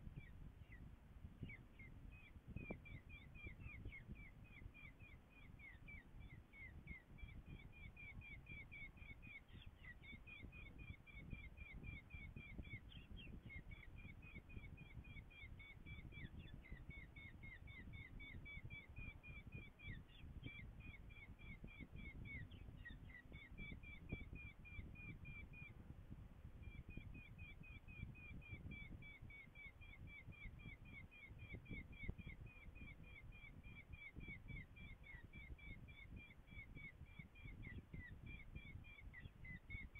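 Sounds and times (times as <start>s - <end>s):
faint wind rumble: 0.0s - 39.9s
falcon chick calling: 1.4s - 25.8s, 26.6s - 39.9s.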